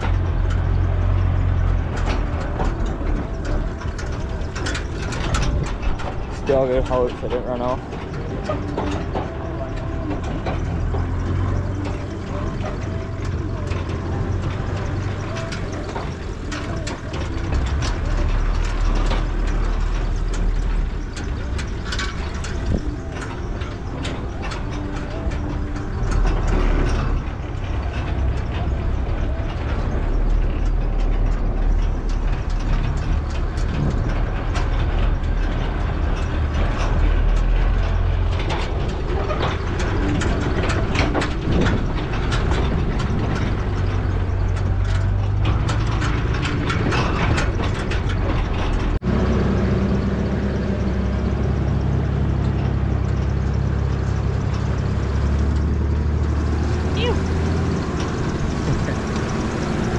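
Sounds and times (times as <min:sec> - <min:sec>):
vehicle body rattling and knocking: 0:00.0 - 0:59.9
vehicle engine hum: 0:00.0 - 0:59.9.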